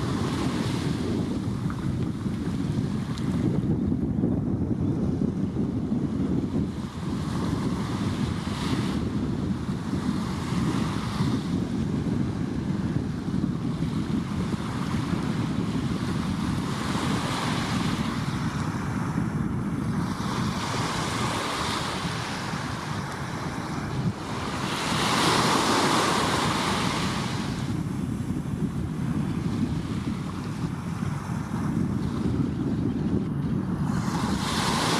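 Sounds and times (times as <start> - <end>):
surf breaking and washing ashore: 0.0 - 34.9
wind rumble on microphone: 0.0 - 34.9.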